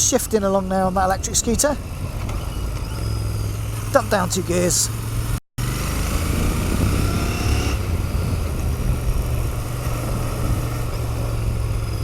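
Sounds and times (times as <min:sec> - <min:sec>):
motorcycle engine running: 0:00.8 - 0:12.0.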